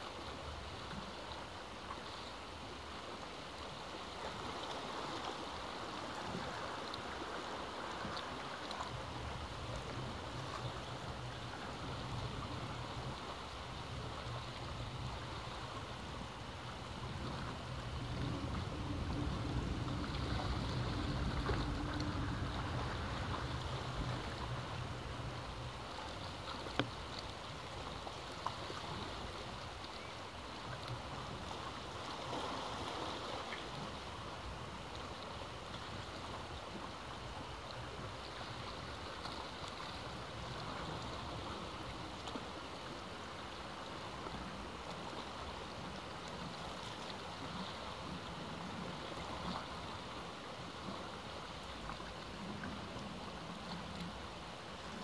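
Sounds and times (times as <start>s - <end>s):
ocean surf washing: 0.0s - 55.0s.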